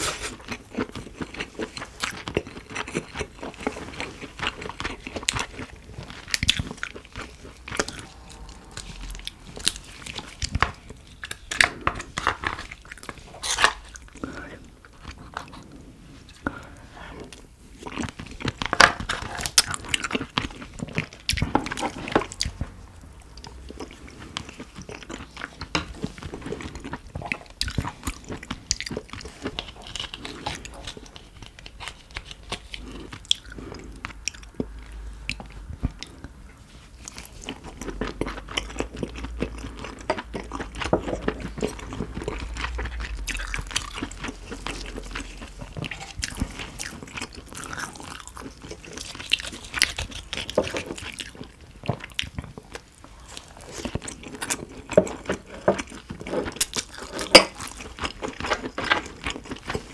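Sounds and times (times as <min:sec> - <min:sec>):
chewing and crunching crab: 0:00.0 - 0:59.9.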